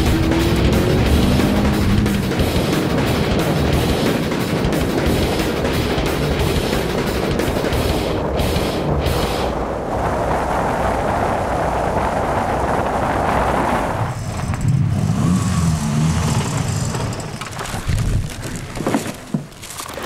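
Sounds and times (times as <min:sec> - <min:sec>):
car engine: 0:00.0 - 0:17.9
road noise: 0:00.0 - 0:20.0.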